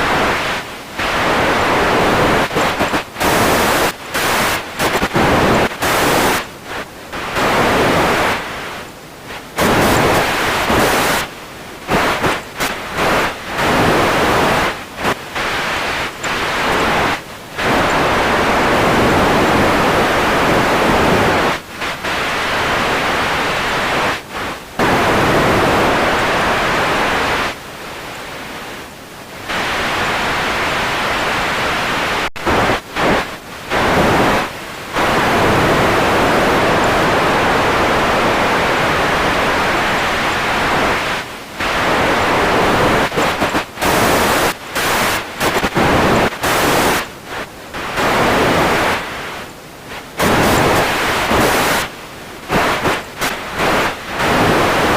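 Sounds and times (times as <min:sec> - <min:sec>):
radio static hiss: 0:00.0 - 0:54.9.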